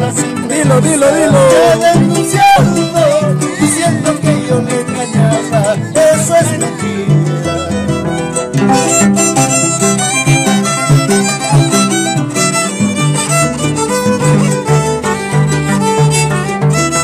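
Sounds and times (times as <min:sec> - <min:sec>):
plucked harp bass notes: 0:00.0 - 0:17.0
violin melody: 0:00.0 - 0:17.0.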